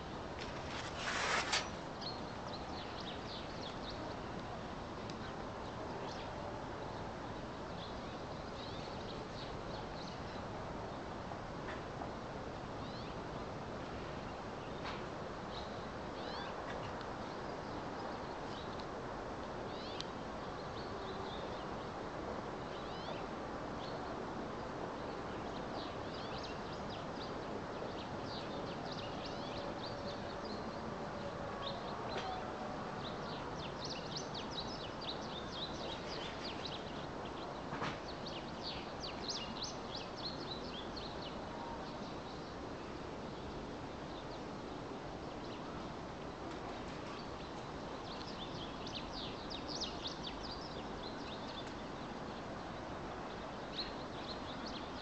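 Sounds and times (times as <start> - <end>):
steady background noise: 0.0 - 55.0.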